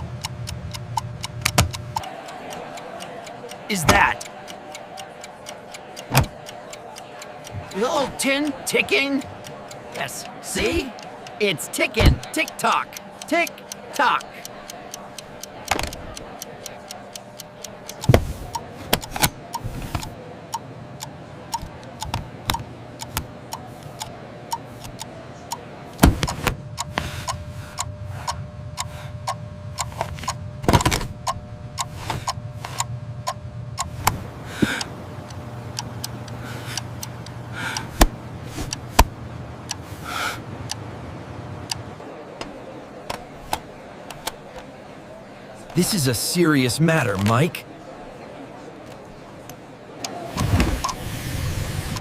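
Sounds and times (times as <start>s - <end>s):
clock ticking: 0.0s - 40.9s, 45.8s - 47.6s.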